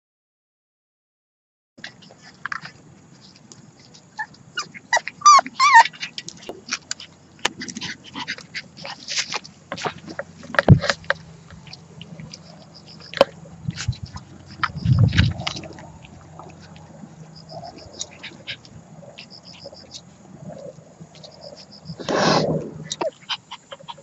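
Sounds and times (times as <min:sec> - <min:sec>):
puppies yelping: 0:01.9 - 0:24.0.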